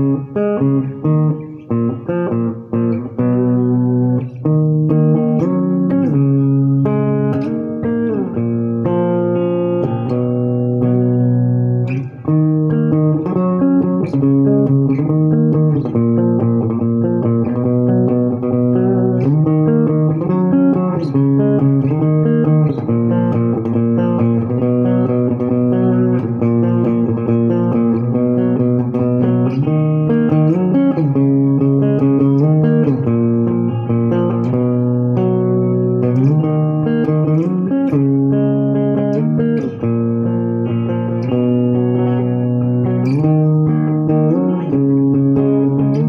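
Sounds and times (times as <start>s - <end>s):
electric guitar playing: 0.0s - 46.0s.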